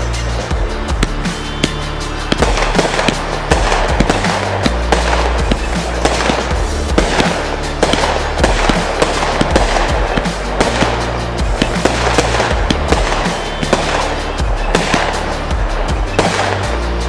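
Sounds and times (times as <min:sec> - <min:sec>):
background music with bass: 0:00.0 - 0:17.0
fireworks shots and bursts: 0:00.0 - 0:17.0.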